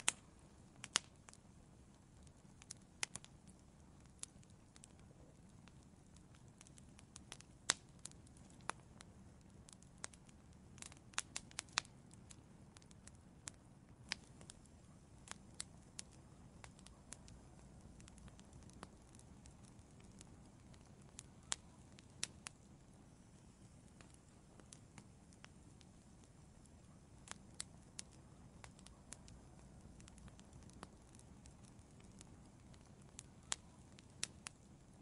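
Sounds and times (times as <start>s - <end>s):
firewood crackling and popping: 0.0s - 35.0s
flames hissing: 0.0s - 35.0s.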